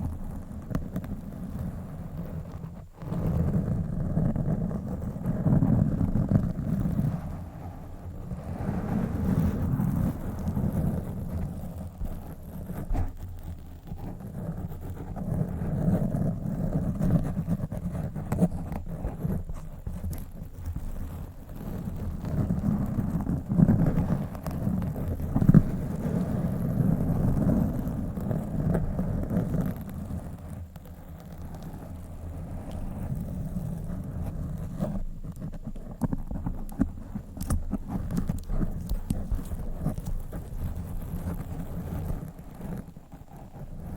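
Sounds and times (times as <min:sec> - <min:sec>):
microphone being scratched: 0:00.0 - 0:43.9.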